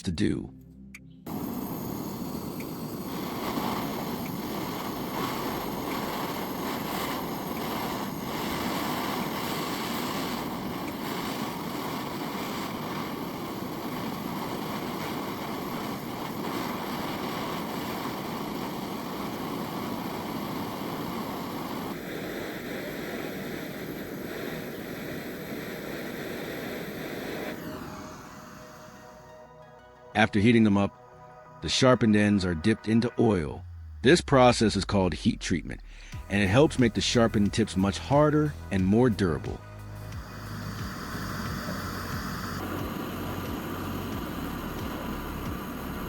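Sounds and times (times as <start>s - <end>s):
gas torch flame rushing: 1.3s - 29.3s, 36.0s - 46.0s.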